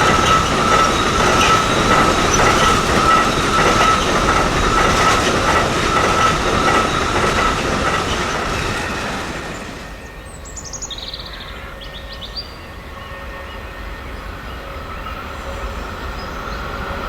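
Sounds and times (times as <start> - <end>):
train wheels clattering and squealing: 0.0 - 17.0.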